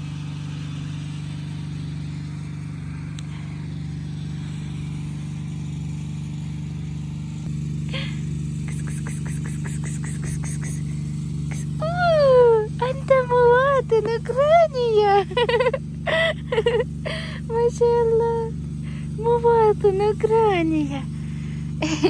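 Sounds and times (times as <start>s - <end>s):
engine running with low hum: 0.0s - 22.0s.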